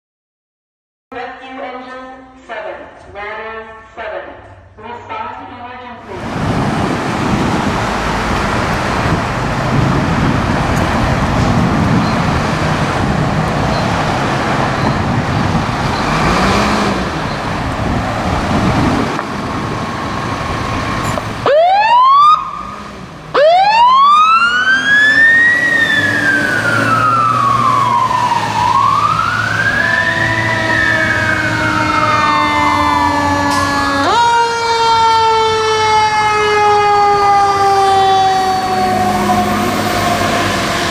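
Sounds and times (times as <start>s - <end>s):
fire truck sirens wailing: 6.0s - 40.9s
road and engine noise: 6.0s - 40.9s.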